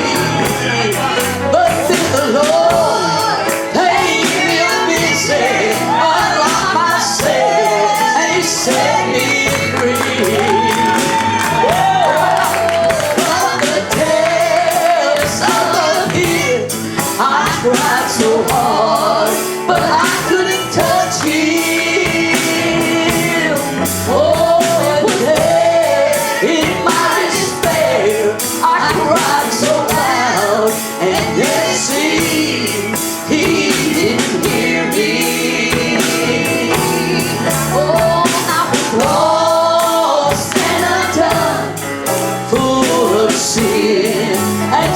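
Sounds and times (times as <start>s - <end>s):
full band playing: 0.0s - 44.9s
male and female voices singing: 0.0s - 44.9s
steady drum beat: 0.0s - 44.9s.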